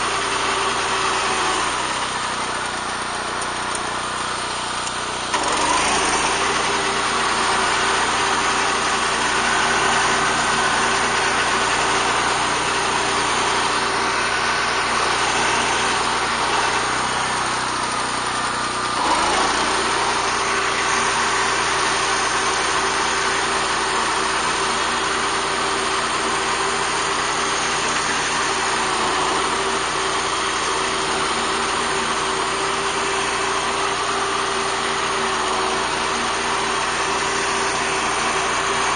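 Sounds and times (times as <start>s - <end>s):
walk-behind tractor engine running: 0.0s - 38.9s.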